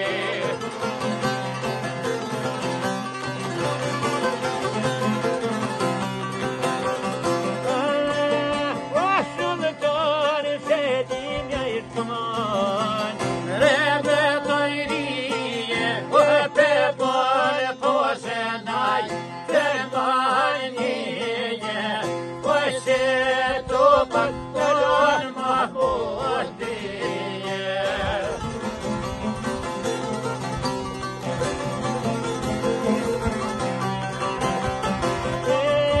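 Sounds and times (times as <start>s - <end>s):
men singing ornamented folk song: 0.0s - 36.0s
plucked lutes: 0.0s - 36.0s.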